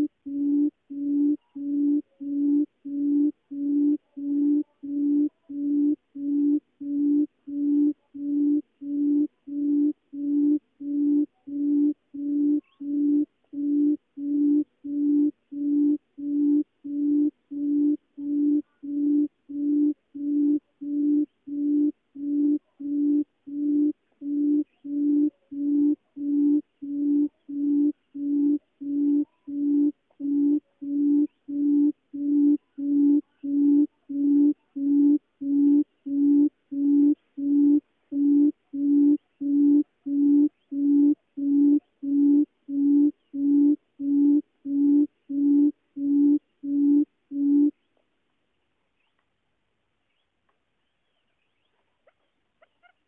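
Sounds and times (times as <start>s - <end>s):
buttonquail low hoots: 0.0s - 47.8s.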